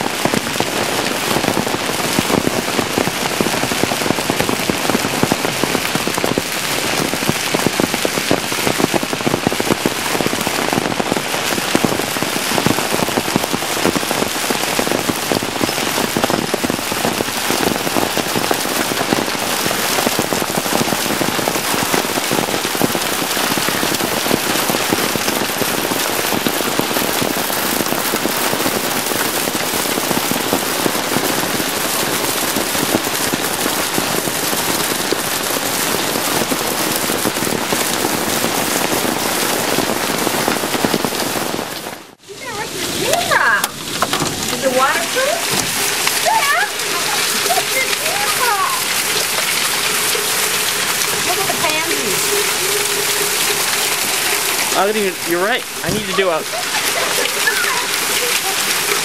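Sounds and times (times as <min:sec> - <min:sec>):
hail and heavy rain clattering: 0:00.0 - 0:59.0.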